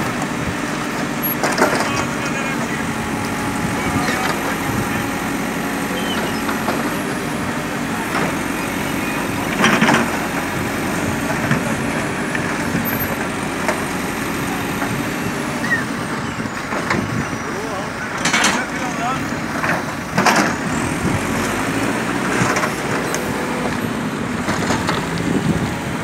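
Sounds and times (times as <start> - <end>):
diesel engine running: 0.0 - 26.0
bucket and asphalt clanks: 0.9 - 5.0, 5.9 - 15.1, 16.5 - 26.0.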